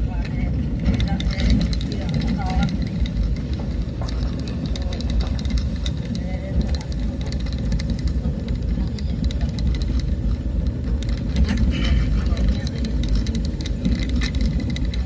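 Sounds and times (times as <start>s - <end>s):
small rattles and knocks: 0.0s - 15.0s
vehicle rumbling on rough road: 0.0s - 15.0s.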